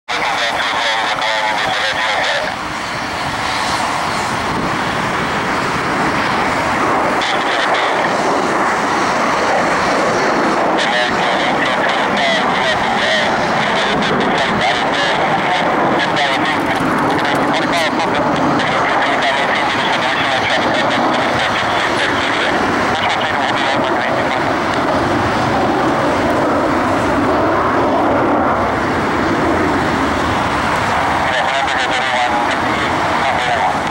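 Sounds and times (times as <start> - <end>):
jet airliner roar on takeoff: 0.1 - 33.9.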